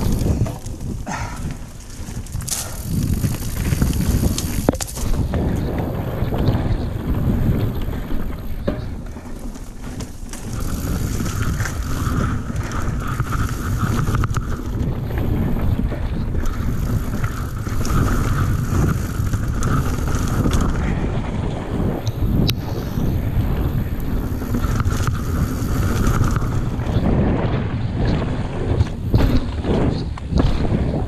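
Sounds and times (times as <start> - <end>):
bike rattling and clicking: 0.0 - 31.0
buzzing whir: 0.0 - 31.0
tyres rolling on dirt: 0.0 - 31.0
wind rushing over microphone: 0.0 - 31.0.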